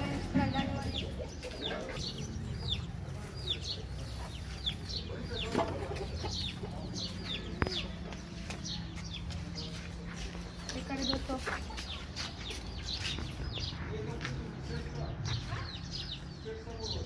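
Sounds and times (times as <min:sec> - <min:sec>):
chickens peeping: 0:00.0 - 0:17.0.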